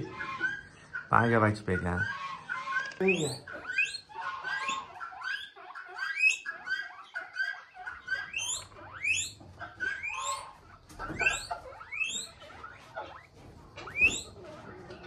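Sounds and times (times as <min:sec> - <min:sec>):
chirps: 0:00.0 - 0:15.0
small animals squealing: 0:00.0 - 0:15.0.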